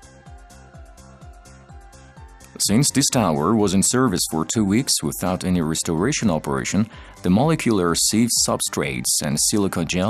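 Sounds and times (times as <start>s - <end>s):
background music with low beat: 0.0s - 10.0s.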